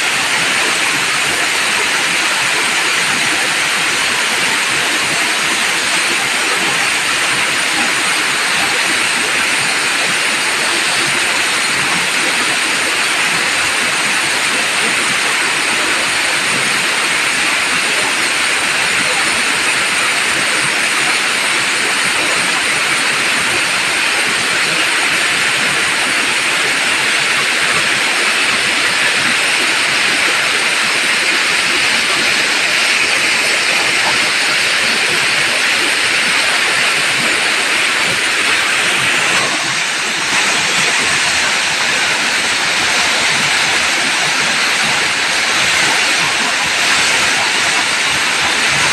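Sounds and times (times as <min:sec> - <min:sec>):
waterfall pouring over rock: 0:00.0 - 0:48.9.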